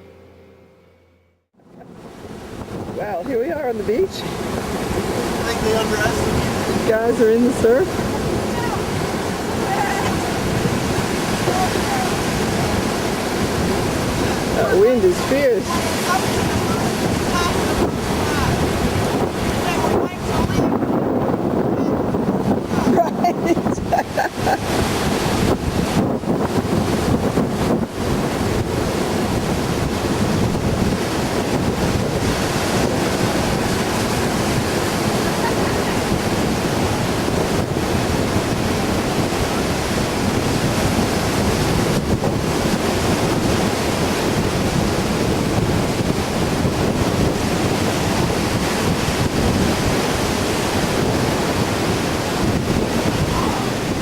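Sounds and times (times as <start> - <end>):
surf breaking on beach: 1.6 - 54.0
wind buffeting microphone: 1.6 - 54.0.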